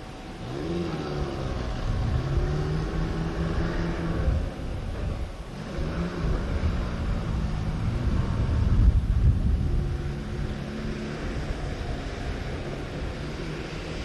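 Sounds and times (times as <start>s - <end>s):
vehicle engine driving off-road: 0.0s - 14.0s.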